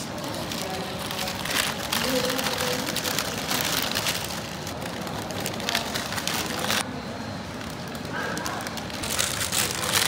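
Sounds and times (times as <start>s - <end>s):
paper wrapper crinkling: 0.2s - 6.8s, 7.6s - 10.0s.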